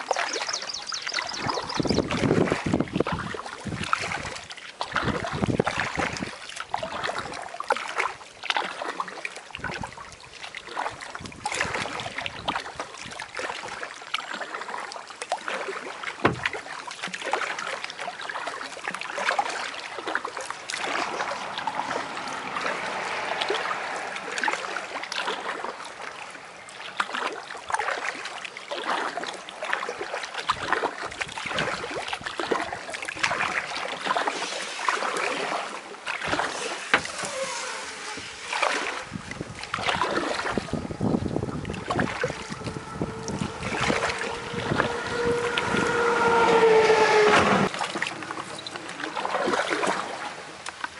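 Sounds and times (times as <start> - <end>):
paddle blades splashing: 0.0 - 50.9
water trickling and dripping: 0.0 - 50.9.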